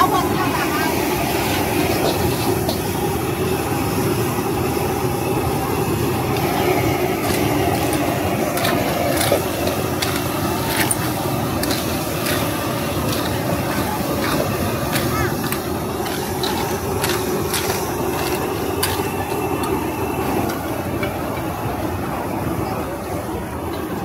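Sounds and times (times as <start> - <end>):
gas burner roaring: 0.0 - 24.0.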